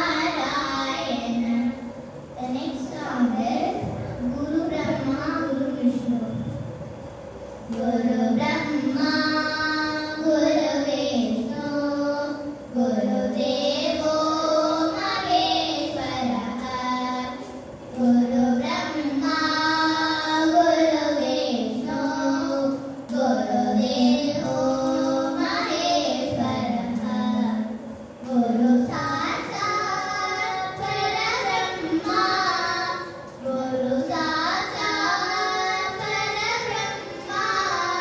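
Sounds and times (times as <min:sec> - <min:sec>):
girls singing classical vocals: 0:00.0 - 0:06.0, 0:07.7 - 0:38.0.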